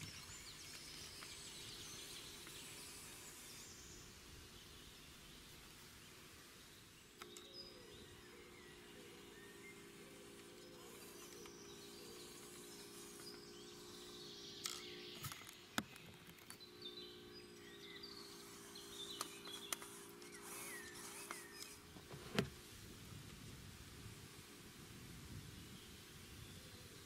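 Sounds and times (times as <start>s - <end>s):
birds chirping: 0.0s - 22.8s, 23.8s - 27.0s
electric motor whine: 0.0s - 23.5s.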